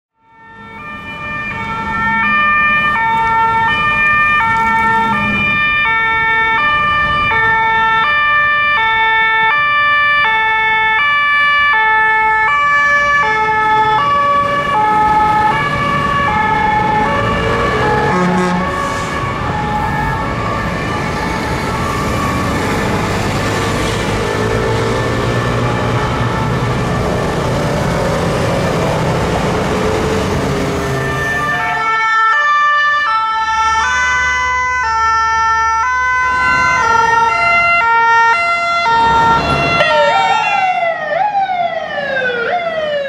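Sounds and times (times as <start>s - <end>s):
fire engine two-tone siren: 0.1s - 43.0s
traffic rumble: 0.5s - 43.0s.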